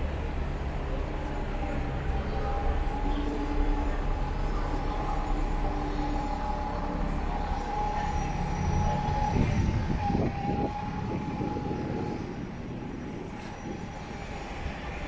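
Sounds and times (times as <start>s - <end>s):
vehicle running with high whine: 0.0s - 15.0s.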